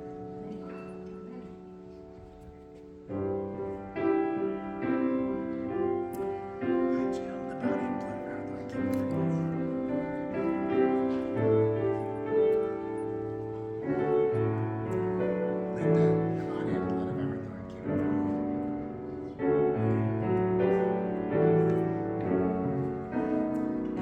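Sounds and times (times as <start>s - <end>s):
slow keyboard music: 0.0s - 24.0s.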